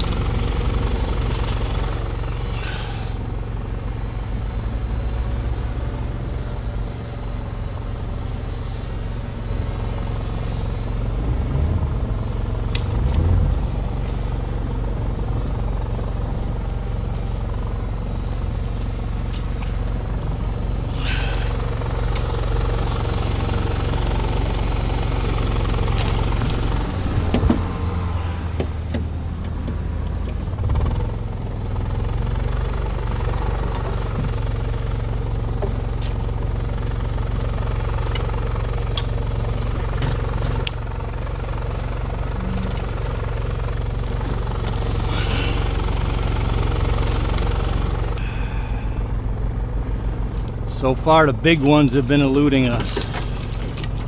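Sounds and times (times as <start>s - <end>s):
boat engines humming: 0.0s - 54.0s.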